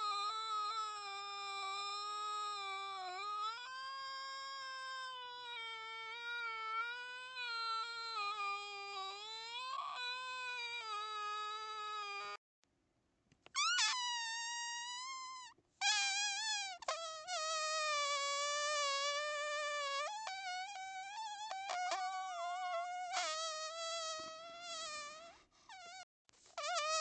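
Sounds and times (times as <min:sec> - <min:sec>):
man making whistle-like mouth sounds: 0:00.0 - 0:12.4, 0:13.6 - 0:26.0.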